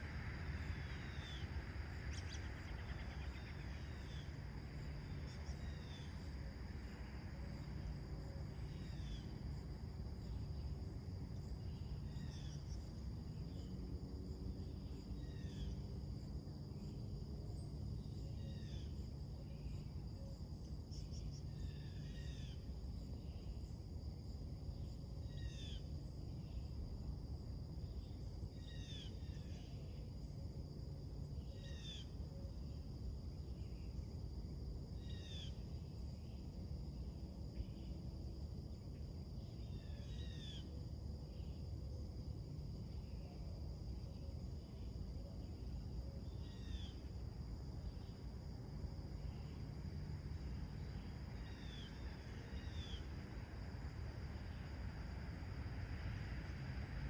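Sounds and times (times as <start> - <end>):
low background rumble: 0.0 - 57.0.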